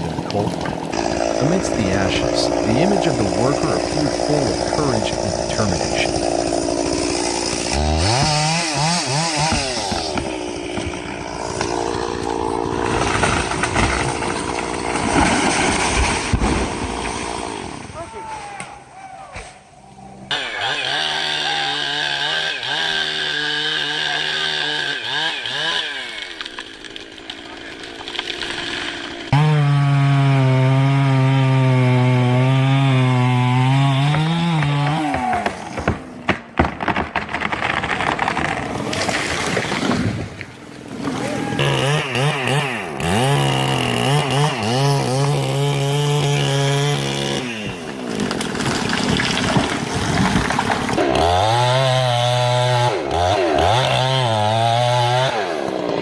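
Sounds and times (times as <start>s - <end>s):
chainsaw cutting wood: 0.0s - 17.9s, 20.3s - 56.0s.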